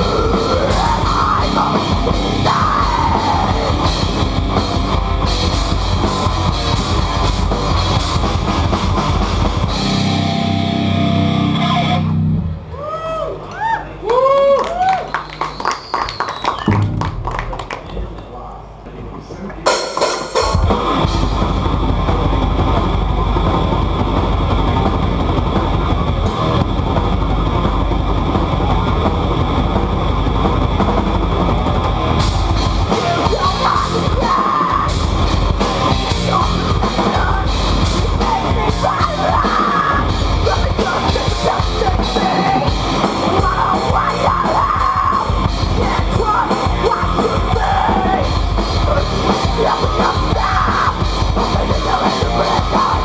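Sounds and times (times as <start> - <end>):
live rock band playing: 0.0 - 12.7, 16.5 - 17.7, 19.6 - 53.0.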